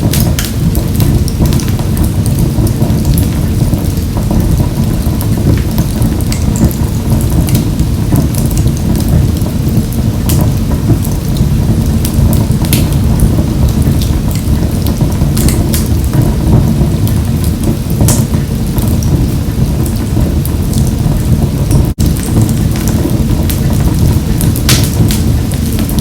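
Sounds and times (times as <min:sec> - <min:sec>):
low rumble of flames: 0:00.0 - 0:26.0
wood fire crackling and popping: 0:00.0 - 0:26.0.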